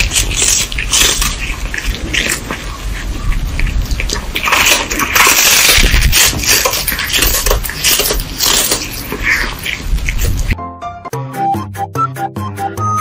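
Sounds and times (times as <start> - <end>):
cat crunching dried fish: 0.0 - 10.6.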